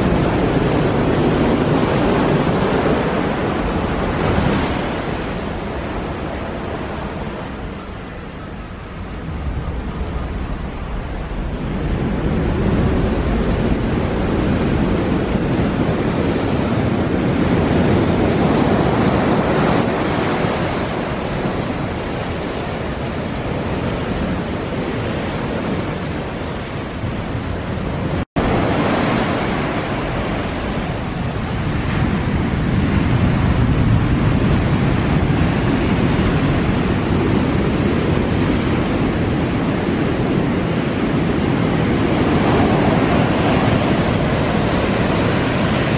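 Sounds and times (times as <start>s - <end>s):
ocean surf breaking over rocks: 0.0s - 45.9s.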